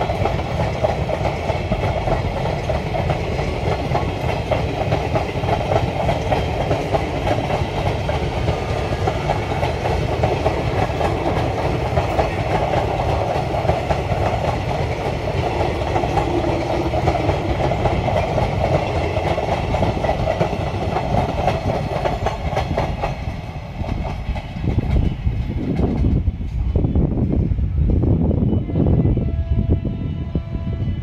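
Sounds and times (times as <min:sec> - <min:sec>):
train wheels clattering on rails: 0:00.0 - 0:26.9.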